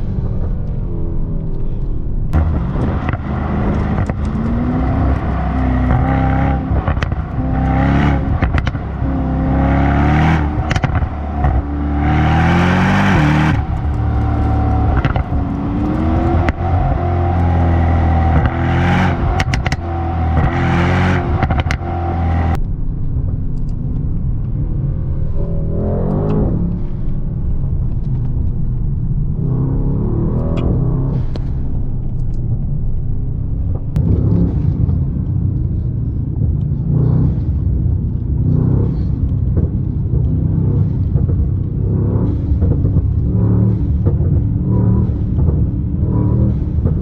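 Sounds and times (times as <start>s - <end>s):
car engine accelerating: 0.0s - 47.0s
exhaust crackles: 0.0s - 47.0s.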